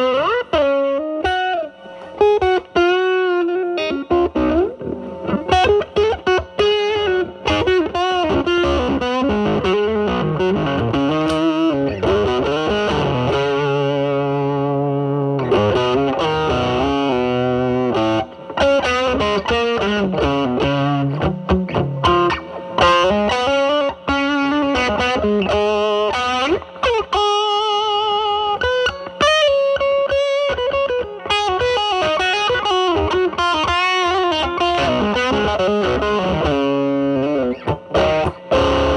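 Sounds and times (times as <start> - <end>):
fuzz electric guitar blues lead: 0.0 - 38.9.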